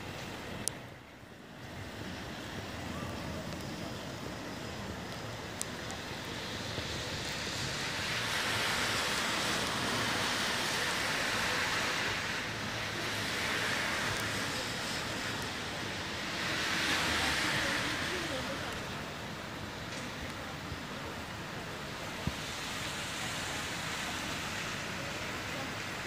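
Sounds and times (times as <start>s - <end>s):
tyres hissing on wet road: 0.0s - 26.0s.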